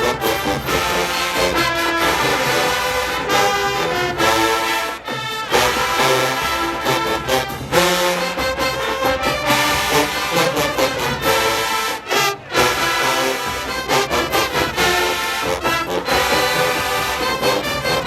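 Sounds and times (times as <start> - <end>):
marching band brass and drums: 0.0 - 18.0.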